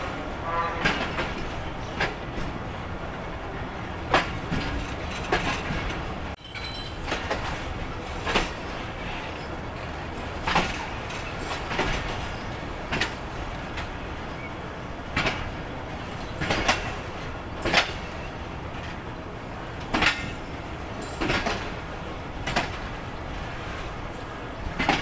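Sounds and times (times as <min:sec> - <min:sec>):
wheels clacking over track joints: 0:00.0 - 0:02.7, 0:03.4 - 0:25.0
train wheels rumbling on rails: 0:00.0 - 0:25.0.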